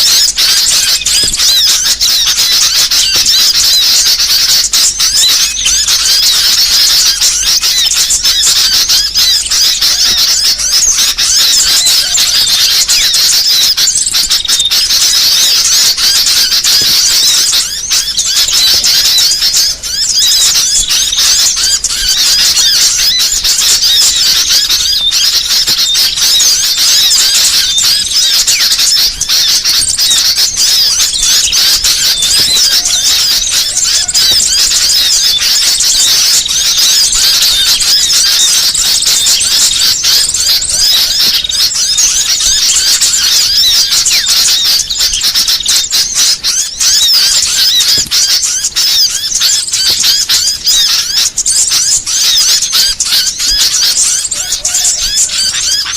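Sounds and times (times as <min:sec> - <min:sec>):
small songbirds twittering: 0:00.0 - 0:55.9.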